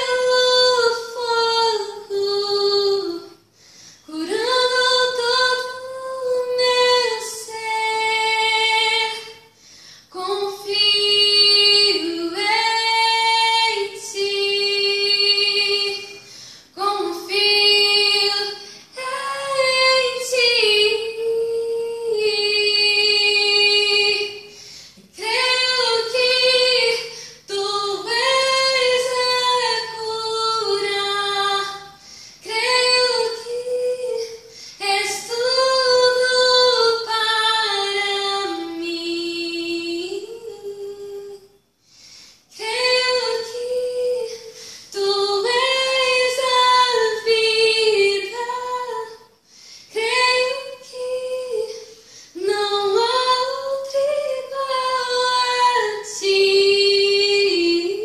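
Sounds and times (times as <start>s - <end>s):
woman singing unaccompanied: 0.0s - 3.4s, 4.0s - 41.6s, 42.5s - 49.3s, 49.9s - 58.0s.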